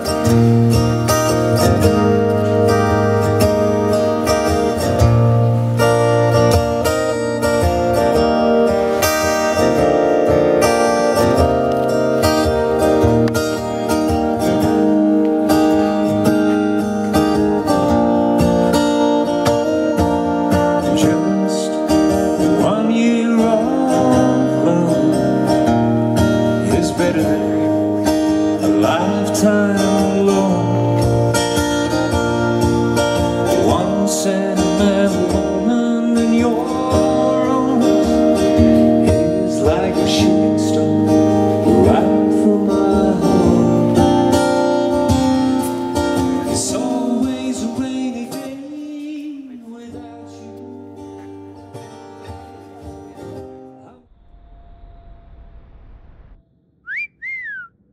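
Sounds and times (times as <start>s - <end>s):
acoustic guitar music: 0.0s - 54.0s.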